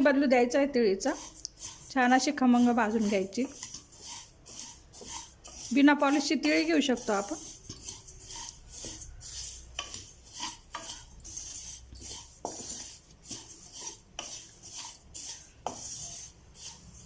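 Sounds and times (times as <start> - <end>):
utensil scraping a pan: 0.7 - 17.0.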